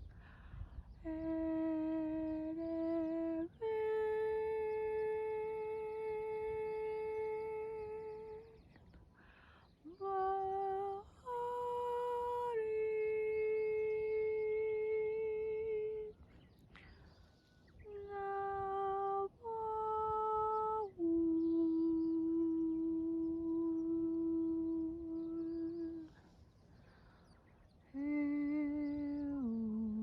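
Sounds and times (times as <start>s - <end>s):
person humming a slow melody: 0.0s - 9.0s, 9.7s - 30.0s.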